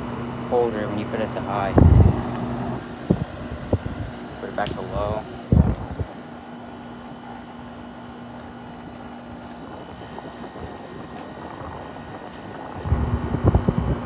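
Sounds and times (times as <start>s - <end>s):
air conditioner fan whir: 0.0s - 14.0s
low hum: 0.0s - 14.0s.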